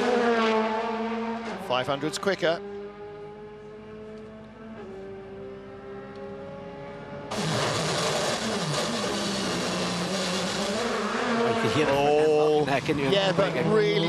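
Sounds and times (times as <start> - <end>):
racing car engine: 0.0 - 14.0.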